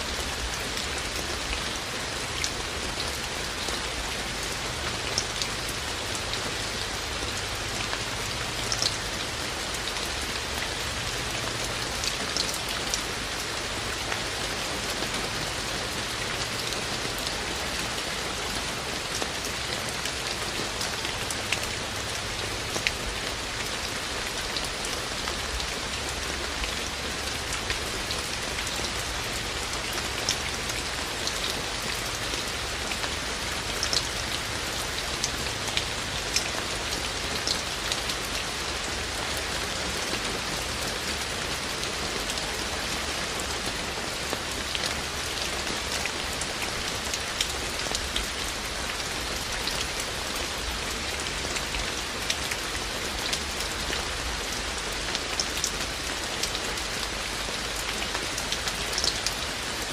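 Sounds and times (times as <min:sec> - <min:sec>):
steady rain: 0:00.0 - 0:59.9
raindrops ticking close by: 0:00.1 - 0:59.9.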